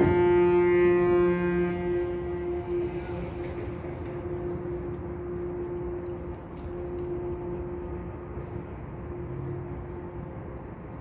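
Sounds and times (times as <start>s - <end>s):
distant foghorn: 0.0s - 11.0s.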